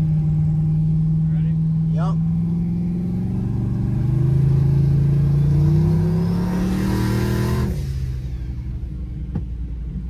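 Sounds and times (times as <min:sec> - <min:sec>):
vehicle engine accelerating: 0:00.0 - 0:09.1.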